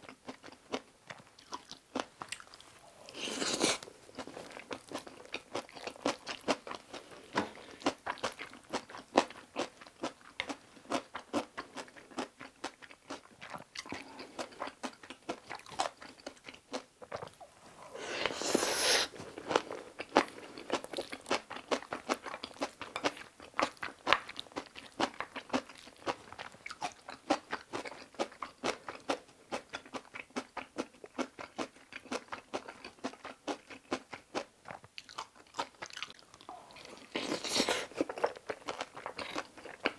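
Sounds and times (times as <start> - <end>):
chewing with small crunches: 0.0 - 17.6, 19.1 - 39.9.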